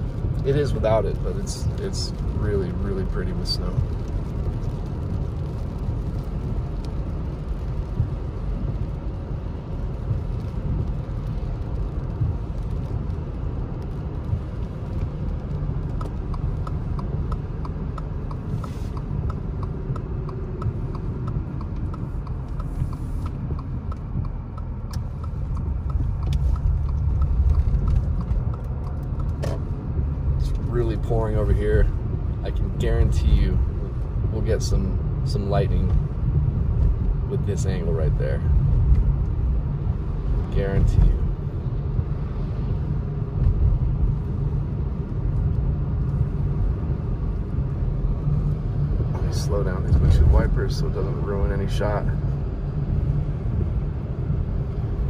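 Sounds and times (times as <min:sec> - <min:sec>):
tyre and engine rumble: 0:00.0 - 0:55.0.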